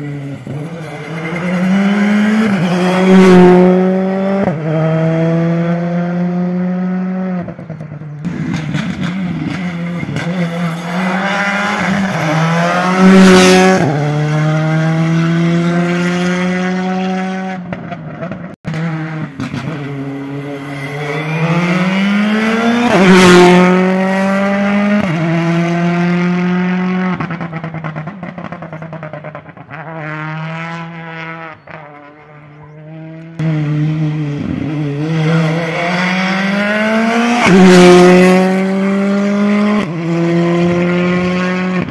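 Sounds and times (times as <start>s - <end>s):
cars passing close by: 0.0s - 41.9s
rally car engines revving: 0.0s - 41.9s.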